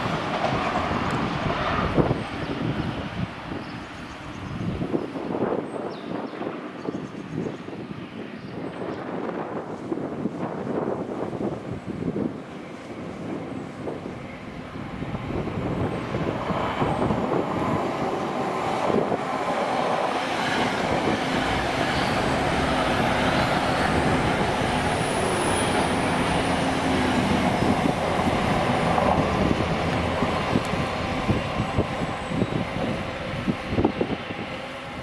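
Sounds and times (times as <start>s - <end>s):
train passing rumble: 0.0s - 35.0s.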